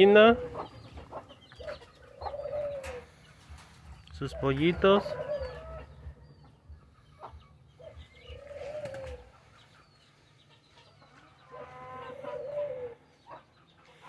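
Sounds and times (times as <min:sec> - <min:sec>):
dove cooing: 0:00.0 - 0:09.8, 0:11.4 - 0:14.0.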